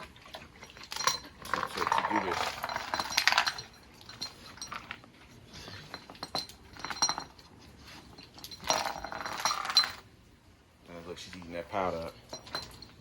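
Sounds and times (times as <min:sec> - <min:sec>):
steel chain clinking and rattling: 0:00.0 - 0:10.1, 0:11.6 - 0:13.0.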